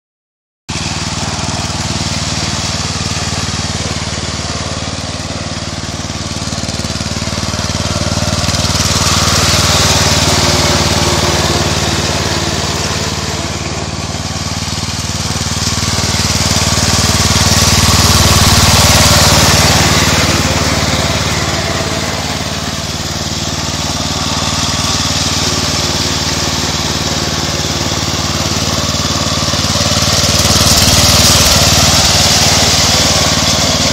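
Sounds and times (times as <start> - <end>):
riding mower engine running: 0.7 - 33.9.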